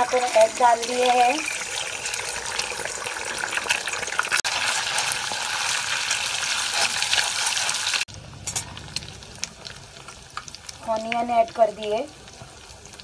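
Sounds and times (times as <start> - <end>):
eggs sizzling in oil: 0.0 - 13.0.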